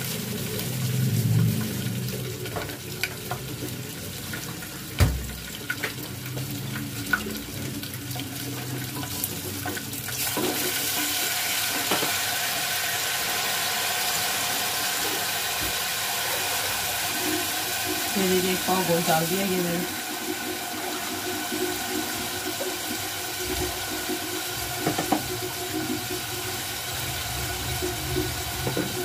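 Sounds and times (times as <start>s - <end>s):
water pouring into pot: 0.0s - 29.0s.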